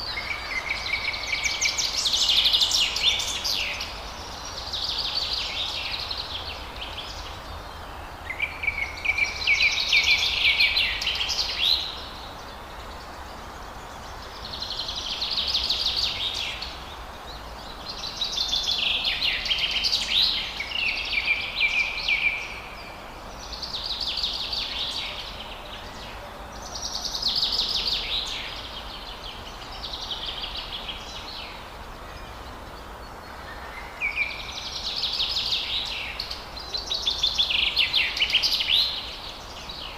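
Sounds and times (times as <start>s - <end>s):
background hiss: 0.0s - 39.9s
bird song: 0.0s - 39.9s.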